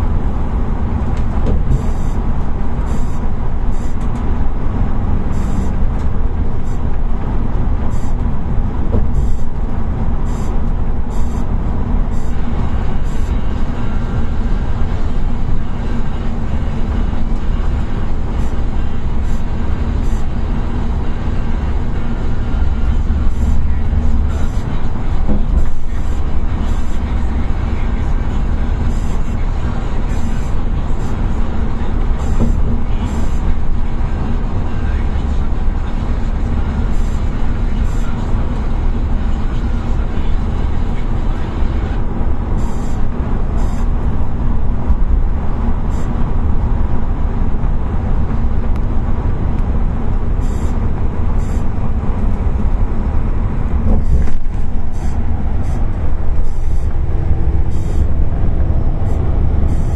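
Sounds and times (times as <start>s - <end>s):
bus engine and tyre rumble: 0.0s - 59.9s.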